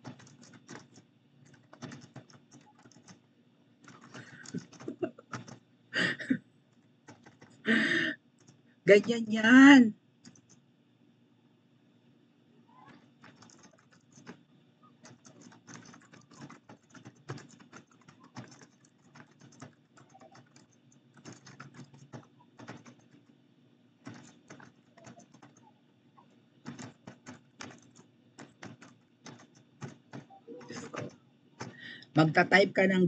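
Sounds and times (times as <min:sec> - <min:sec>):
keyboard typing: 0:00.0 - 0:03.2, 0:03.8 - 0:05.6, 0:06.7 - 0:09.4, 0:10.2 - 0:10.6, 0:12.7 - 0:23.4, 0:24.0 - 0:32.0.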